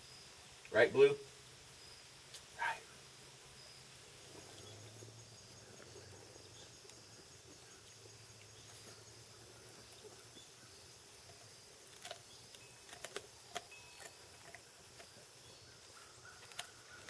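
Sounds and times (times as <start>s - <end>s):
faint insect chirring: 0.0s - 17.0s.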